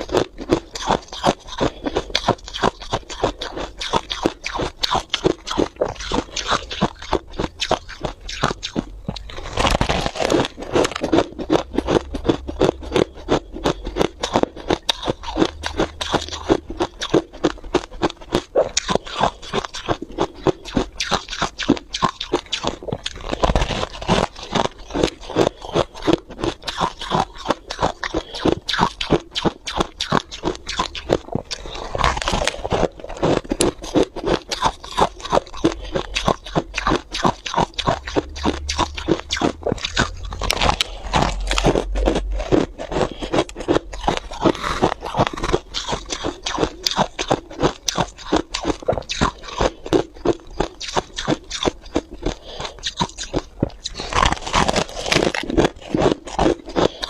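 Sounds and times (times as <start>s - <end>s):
frost being chewed: 0.0s - 57.0s.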